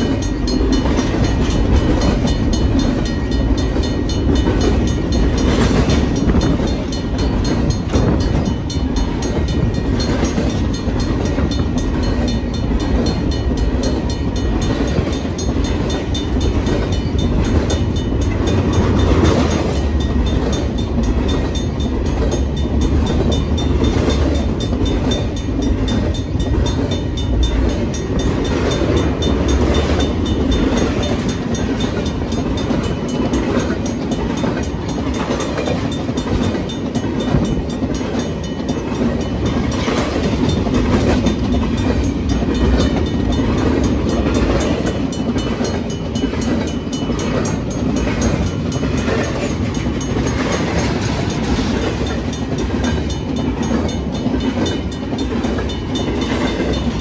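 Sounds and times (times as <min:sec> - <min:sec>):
freight train rumbling on rails: 0:00.0 - 0:57.0
train wheels clicking: 0:00.0 - 0:57.0.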